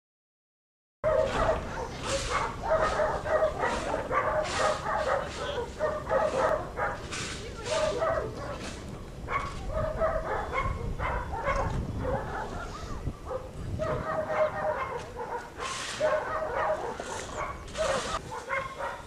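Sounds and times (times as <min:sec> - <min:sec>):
dogs barking and yelping: 0:01.0 - 0:19.0.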